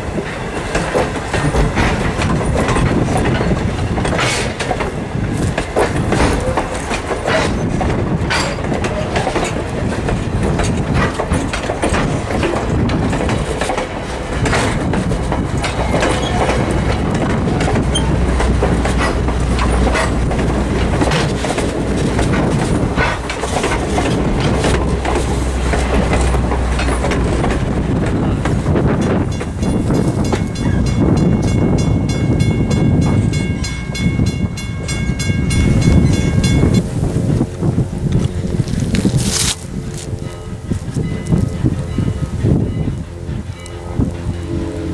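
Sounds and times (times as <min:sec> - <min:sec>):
train rumbling: 0:00.0 - 0:44.9
wheels clacking over rail joints: 0:00.0 - 0:44.9.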